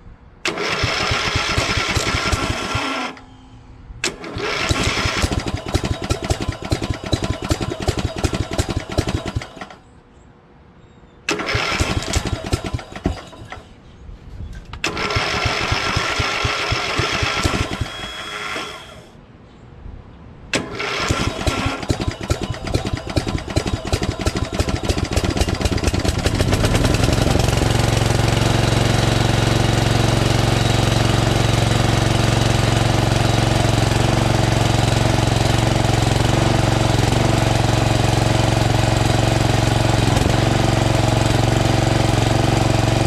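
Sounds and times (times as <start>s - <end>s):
lawn tractor engine cranking: 0.4s - 3.3s, 4.0s - 9.9s, 11.3s - 13.8s, 14.8s - 19.1s, 20.6s - 43.0s.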